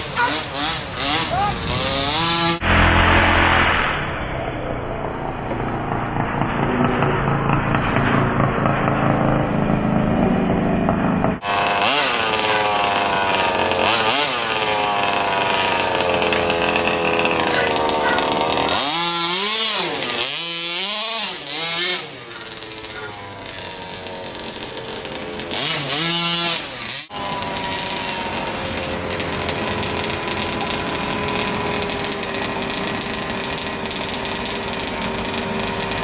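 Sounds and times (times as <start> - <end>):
two-stroke engine revving: 0.0 - 4.0, 5.0 - 36.0.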